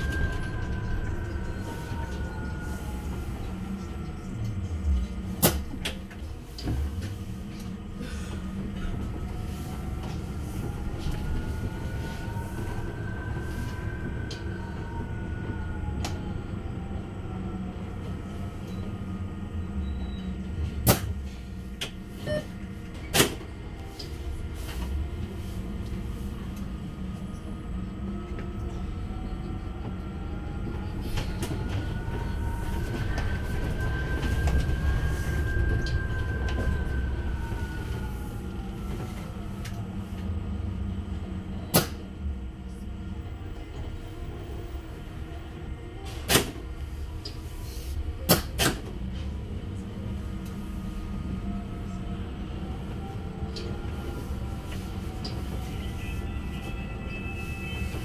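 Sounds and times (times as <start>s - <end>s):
rumble of tyres and body: 0.0s - 58.0s.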